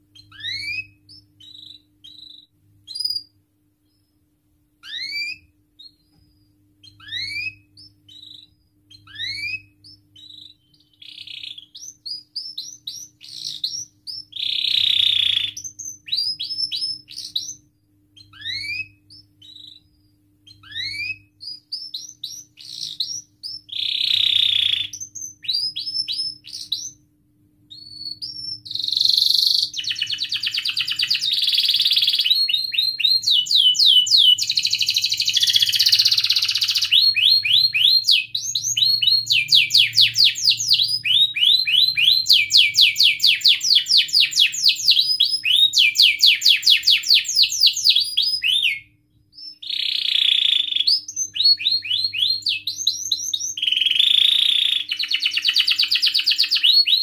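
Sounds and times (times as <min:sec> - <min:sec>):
canary singing trills: 0:00.0 - 0:04.2, 0:04.8 - 0:27.0, 0:27.7 - 0:57.0.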